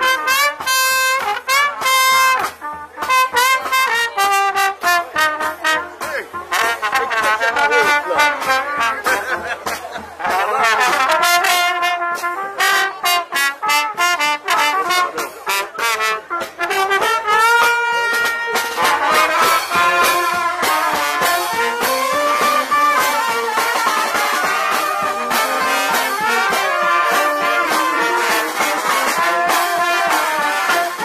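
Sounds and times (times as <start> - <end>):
brass band playing: 0.0 - 31.0.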